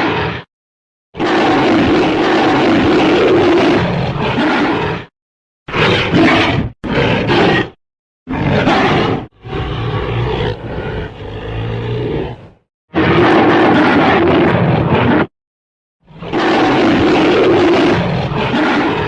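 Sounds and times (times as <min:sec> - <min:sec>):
loud rough monster roars: 0:01.2 - 0:05.1, 0:05.7 - 0:15.3, 0:16.0 - 0:19.0.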